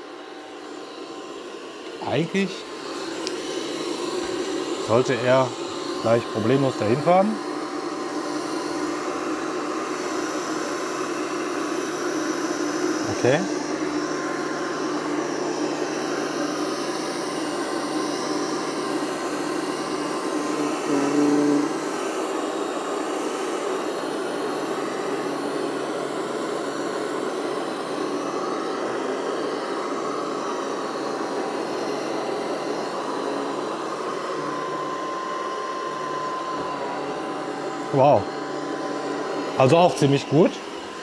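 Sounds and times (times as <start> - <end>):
robot vacuum whirring: 0.1 - 41.0.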